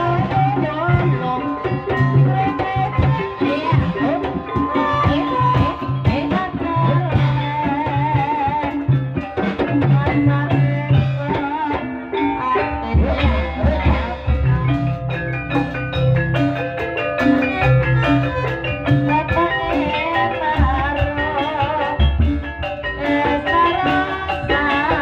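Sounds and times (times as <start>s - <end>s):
wavering melodic line: 0.0s - 7.9s, 10.2s - 25.0s
metallophone melody: 0.0s - 8.2s, 8.8s - 25.0s.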